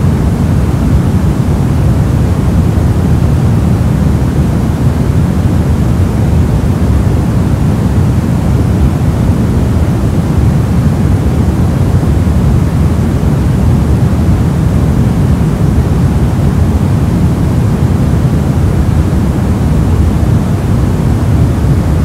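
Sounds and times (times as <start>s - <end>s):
low steady static noise: 0.0s - 22.0s.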